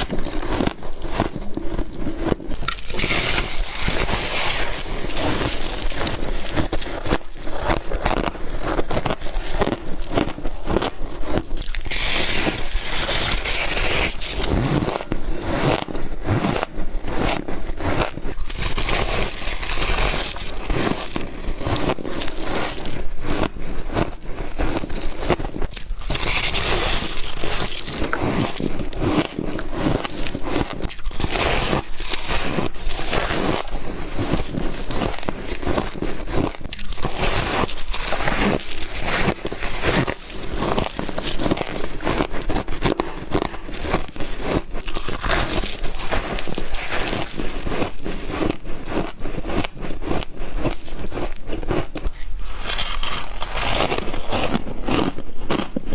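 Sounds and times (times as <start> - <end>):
crunchy frost being chewed: 0.0 - 55.9.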